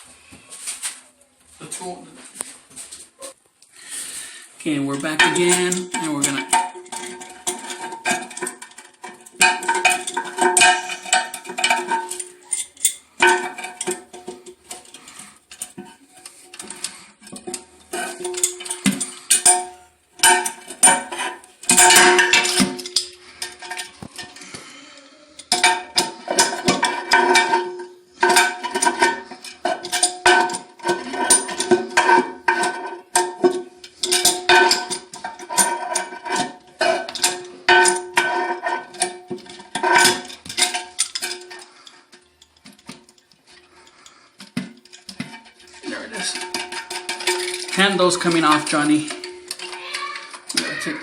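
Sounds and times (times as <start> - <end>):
hand tool clinking on metal nut: 4.9 - 24.6, 25.4 - 51.0.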